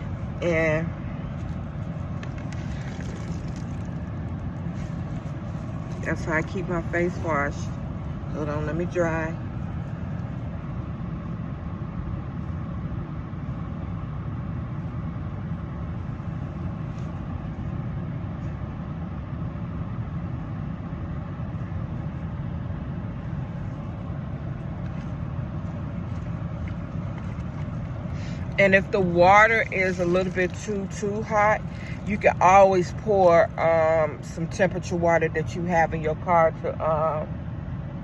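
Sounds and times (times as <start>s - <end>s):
vehicle low rumble: 0.0s - 38.0s.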